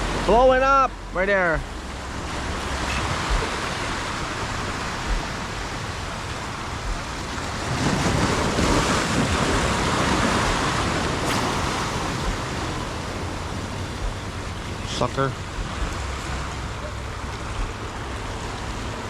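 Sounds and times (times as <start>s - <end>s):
ocean surf washing in: 0.0s - 19.0s
wind buffeting microphone: 1.5s - 19.0s.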